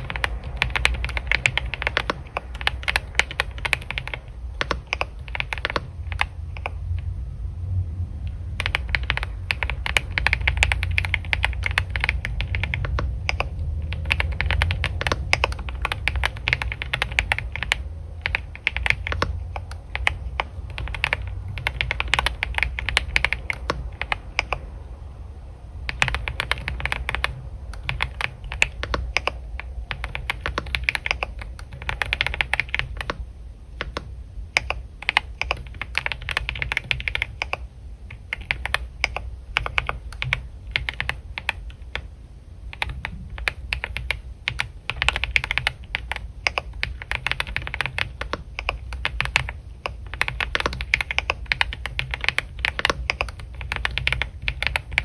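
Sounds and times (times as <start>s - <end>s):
computer keyboard typing: 0.0s - 7.1s, 8.3s - 24.8s, 25.8s - 55.0s
steady low hum: 0.0s - 55.0s.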